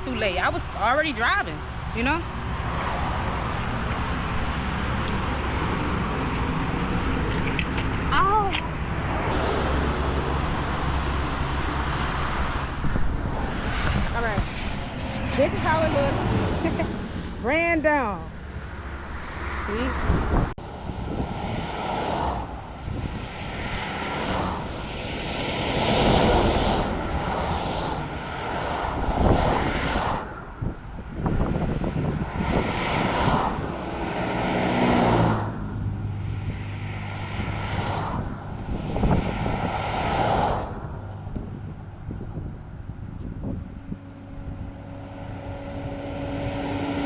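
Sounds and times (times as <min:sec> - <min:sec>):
low engine hum: 0:00.0 - 0:47.0
vehicles rushing past: 0:00.0 - 0:47.0.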